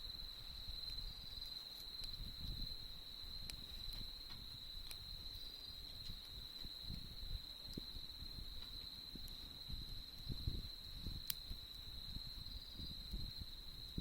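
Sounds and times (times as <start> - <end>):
campfire crackling: 0.0 - 14.0
insects trilling: 0.0 - 14.0.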